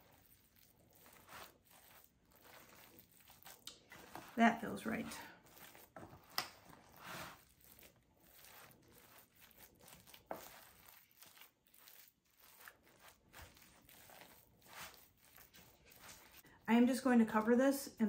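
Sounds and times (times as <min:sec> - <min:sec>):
spatula scraping in foil pan: 0:00.0 - 0:16.4.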